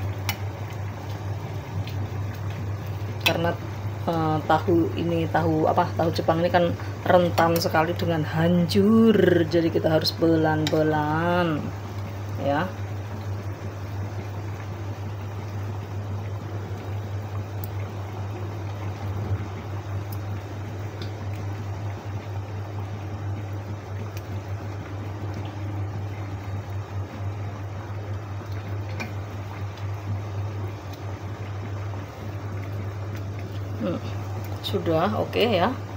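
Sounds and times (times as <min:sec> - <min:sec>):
broth simmering and bubbling: 0:00.0 - 0:35.9
steady low hum: 0:00.0 - 0:35.9.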